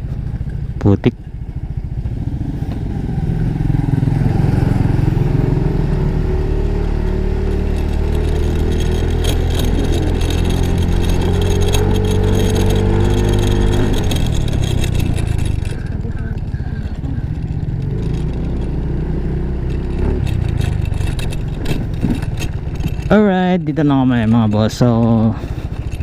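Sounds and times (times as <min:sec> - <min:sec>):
scooter engine accelerating: 0:00.0 - 0:26.0.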